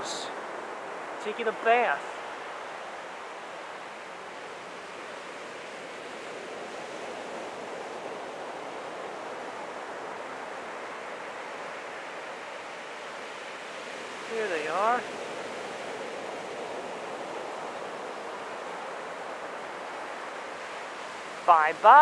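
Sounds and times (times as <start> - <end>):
waves breaking on sand: 0.0 - 22.0.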